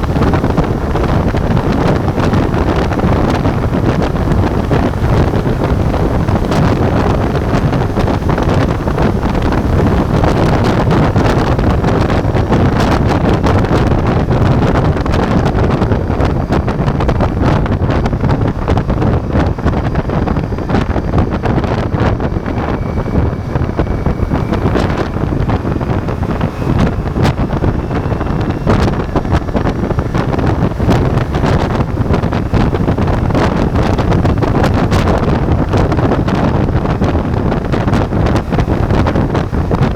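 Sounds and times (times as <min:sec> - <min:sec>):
motorcycle engine running: 0:00.0 - 0:39.9
road noise: 0:00.0 - 0:39.9
wind buffeting microphone: 0:00.0 - 0:39.9.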